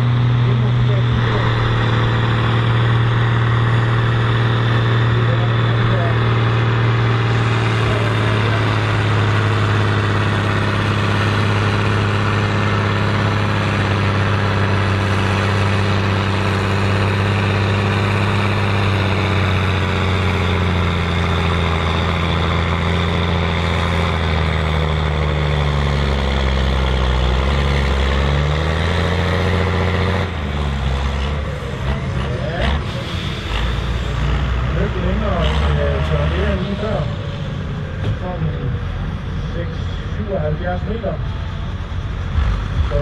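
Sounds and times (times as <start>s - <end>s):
tractor diesel engine straining: 0.0s - 43.0s.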